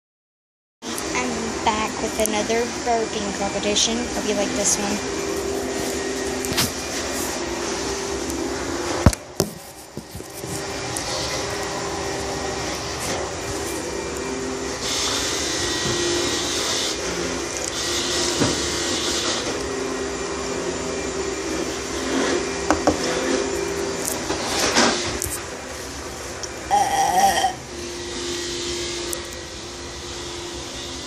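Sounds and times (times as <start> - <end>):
machine drone: 0.8 - 31.0.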